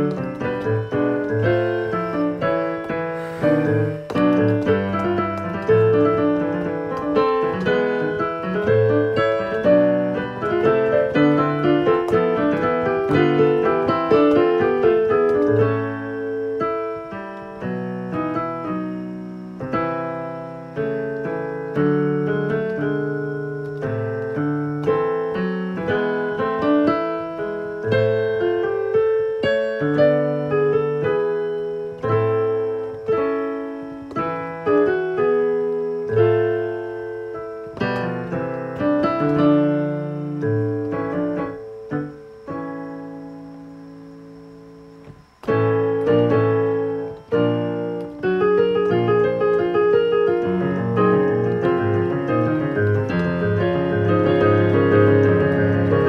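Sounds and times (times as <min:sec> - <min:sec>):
digital piano playing: 0:00.0 - 0:56.0.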